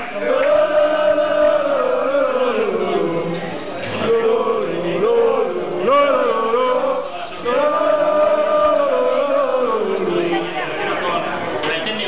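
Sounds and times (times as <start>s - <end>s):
football supporters chanting: 0.0s - 11.0s.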